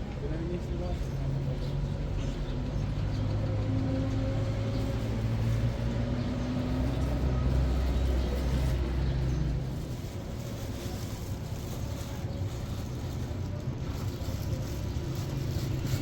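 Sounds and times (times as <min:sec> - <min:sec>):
vehicle engine running: 0:01.4 - 0:16.0.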